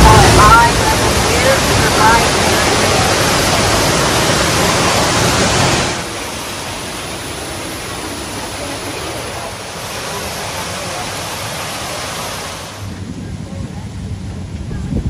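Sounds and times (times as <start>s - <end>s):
water rushing over weir: 0.0s - 15.0s.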